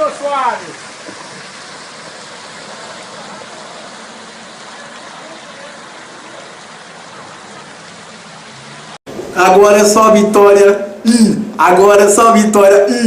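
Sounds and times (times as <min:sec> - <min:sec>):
heavy rain: 0:00.0 - 0:13.0
running water: 0:00.0 - 0:13.0.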